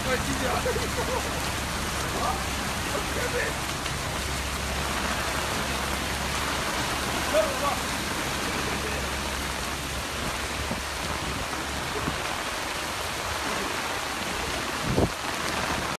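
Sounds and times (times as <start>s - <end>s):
rushing water hiss: 0.0s - 16.0s.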